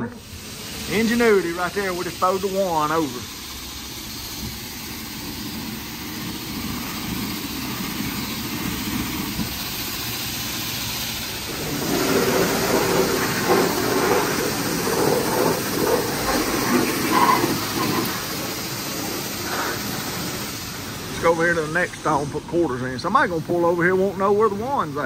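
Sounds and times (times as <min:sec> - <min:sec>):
pressure washer spraying water: 0:00.0 - 0:25.0.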